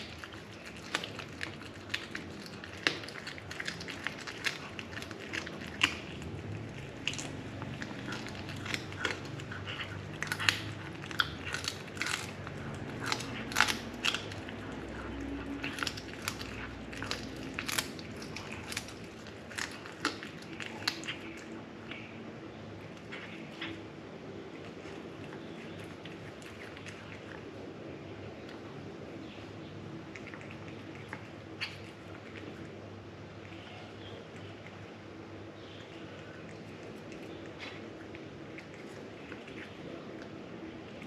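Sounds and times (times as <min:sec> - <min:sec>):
cat crunching on bird: 0:00.0 - 0:41.0.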